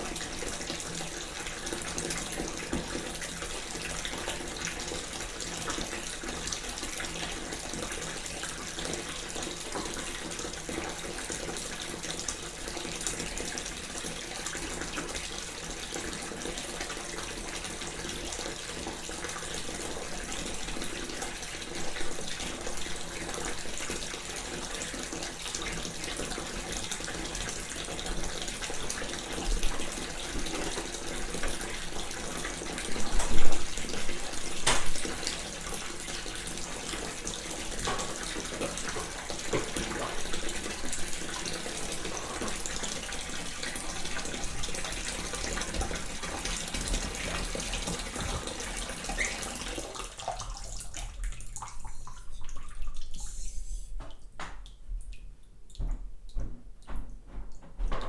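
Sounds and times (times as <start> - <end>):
tap water running into bathtub: 0.0 - 58.0.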